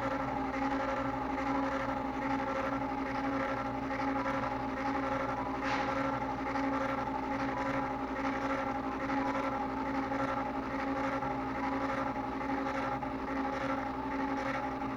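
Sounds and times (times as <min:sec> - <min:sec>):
cnc machine motors whining: 0:00.0 - 0:14.9.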